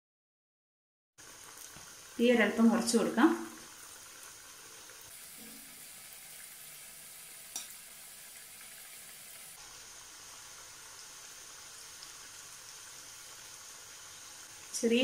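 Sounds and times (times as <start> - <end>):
deep-frying sizzle: 1.2 - 15.0.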